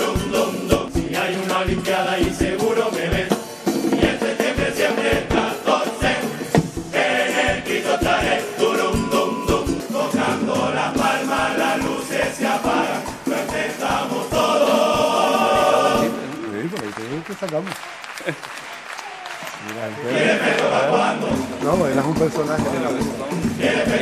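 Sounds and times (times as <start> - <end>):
chorus singing together: 0.0 - 16.5, 19.5 - 24.0
steady drum beat: 0.0 - 24.0.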